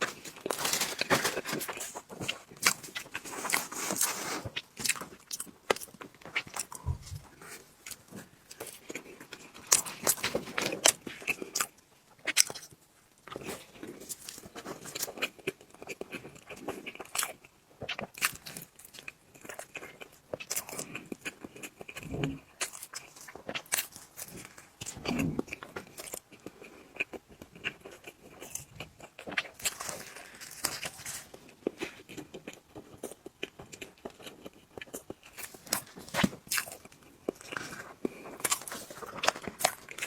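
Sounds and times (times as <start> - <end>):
wet chewing with mouth clicks: 1.6 - 40.0.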